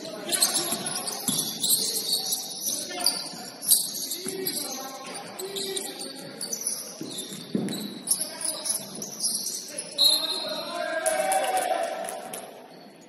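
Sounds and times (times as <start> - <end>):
sneakers squeaking on court: 0.0 - 10.7.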